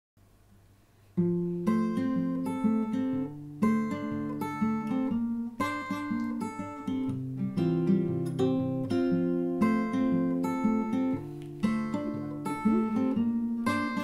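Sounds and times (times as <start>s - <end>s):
acoustic guitar strumming chords: 1.2s - 14.0s.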